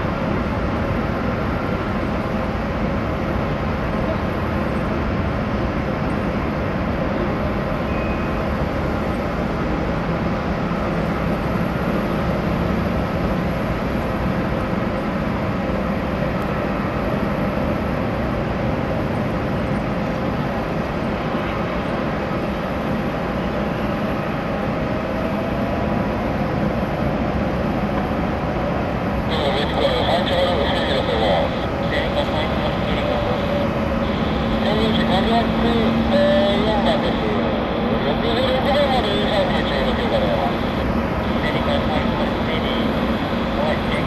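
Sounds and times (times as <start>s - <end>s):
jet engine rumble and whine: 0.0s - 44.0s.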